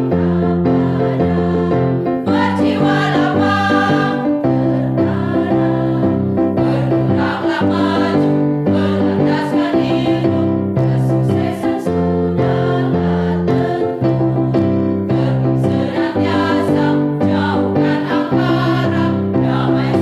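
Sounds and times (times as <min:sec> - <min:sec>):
women's choir singing a march: 0:00.0 - 0:20.0.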